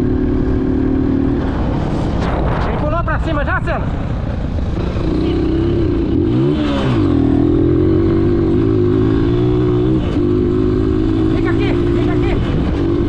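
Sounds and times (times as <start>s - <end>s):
motorcycle engine running: 0.0s - 1.9s, 3.9s - 13.0s.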